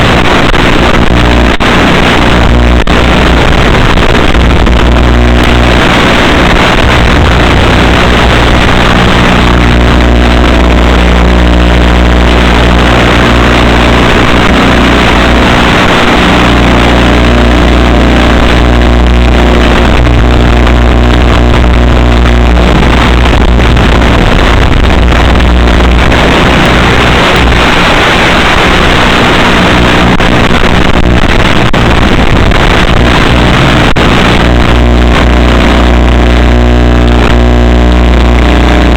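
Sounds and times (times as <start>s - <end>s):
low wind rumble: 0.0s - 38.8s.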